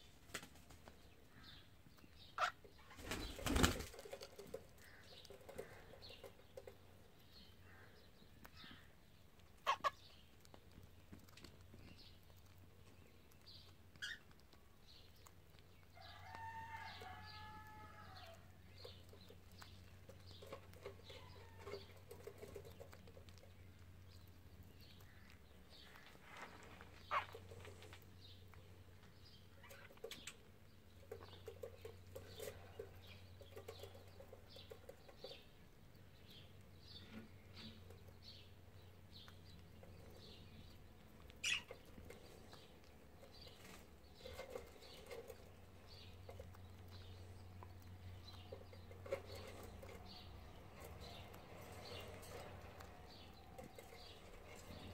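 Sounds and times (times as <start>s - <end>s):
bird chirp: 0.8s - 54.9s.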